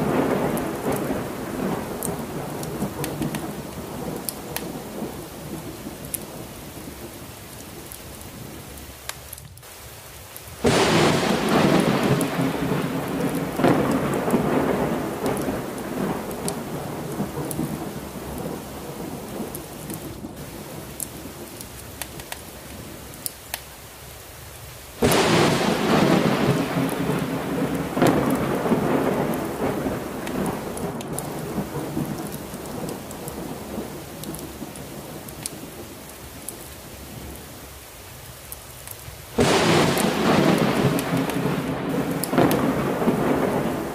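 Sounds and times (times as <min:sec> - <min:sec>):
thunderclaps rumbling: 0:00.0 - 0:07.7, 0:10.6 - 0:22.9, 0:25.0 - 0:36.2, 0:39.4 - 0:43.9
heavy rain: 0:00.0 - 0:43.9.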